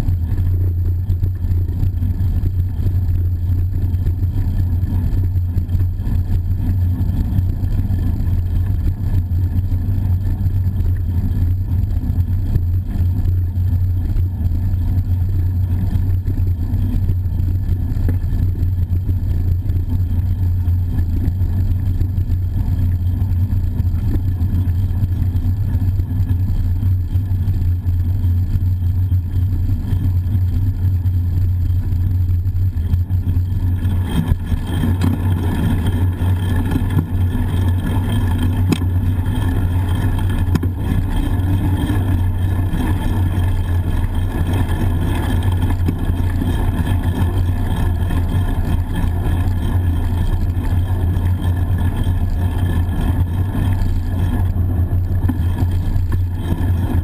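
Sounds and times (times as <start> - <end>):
wind rumble while riding: 0.0 - 57.0.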